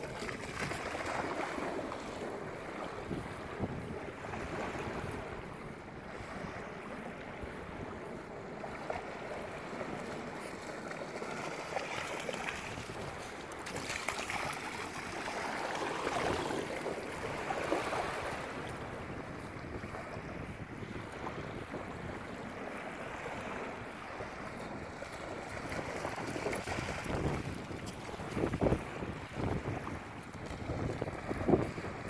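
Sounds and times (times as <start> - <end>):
small waves lapping on shore: 0.0 - 32.0.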